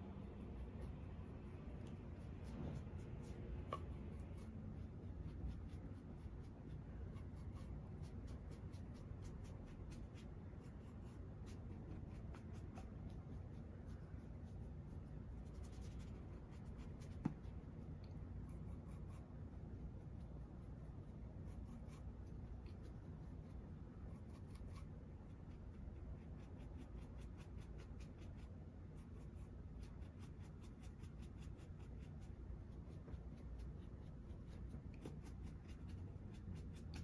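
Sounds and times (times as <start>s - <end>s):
light scratchy brush strokes: 0.0s - 37.0s
steady low hum: 0.0s - 37.0s.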